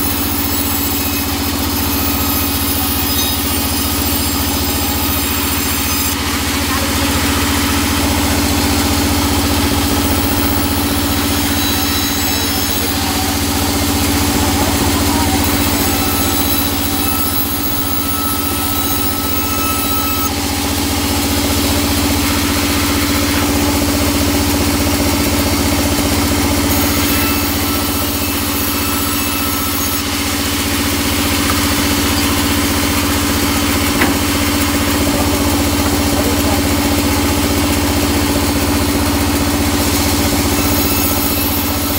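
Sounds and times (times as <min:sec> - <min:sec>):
band saw cutting wood: 0:00.0 - 0:41.9
sawmill drive humming: 0:00.0 - 0:41.9.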